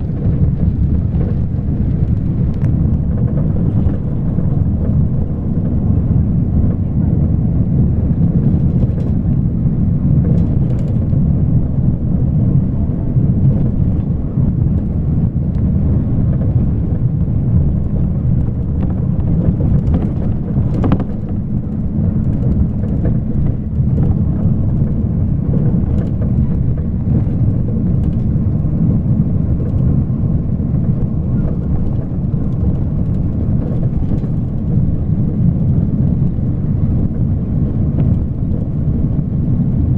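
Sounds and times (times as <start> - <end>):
moving vehicle rumble: 0.0 - 39.9
road and wind noise: 0.0 - 39.9.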